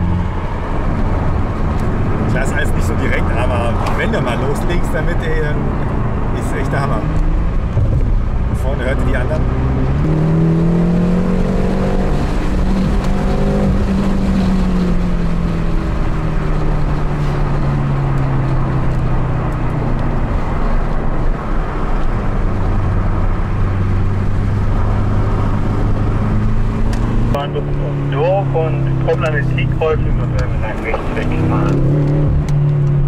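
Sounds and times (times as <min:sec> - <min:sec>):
car engine accelerating: 0:00.0 - 0:33.0
road noise: 0:00.0 - 0:33.0.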